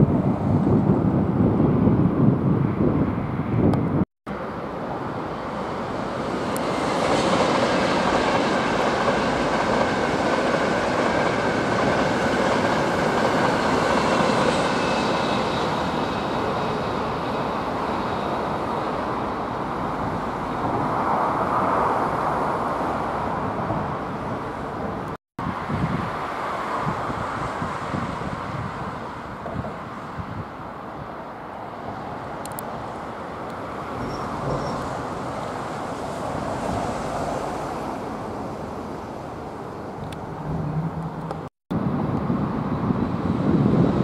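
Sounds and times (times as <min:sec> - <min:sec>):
moving vehicle rumble and hiss: 0:02.5 - 0:44.0.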